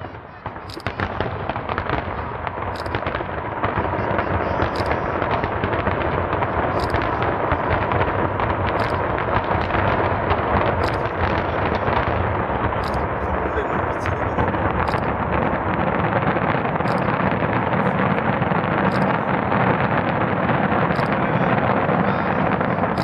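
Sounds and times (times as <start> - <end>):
fireworks bangs and crackles: 0.0 - 23.0
high firework hiss: 0.1 - 23.0.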